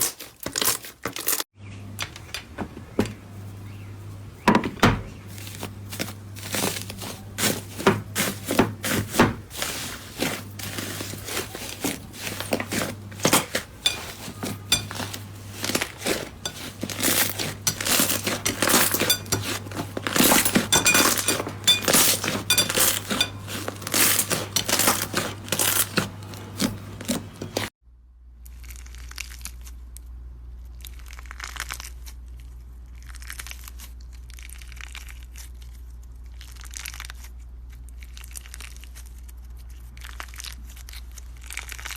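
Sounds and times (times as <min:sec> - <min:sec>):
low steady hum: 0:01.6 - 0:36.6
slime crackling and crunching: 0:05.3 - 0:27.7, 0:28.5 - 0:29.9, 0:30.6 - 0:41.9.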